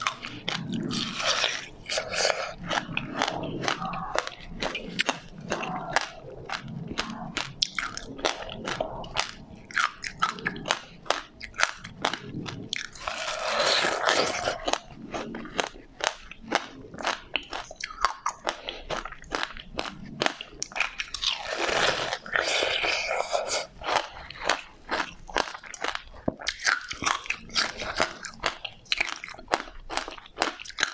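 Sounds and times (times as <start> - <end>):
crunchy chewing: 0.0 - 30.9.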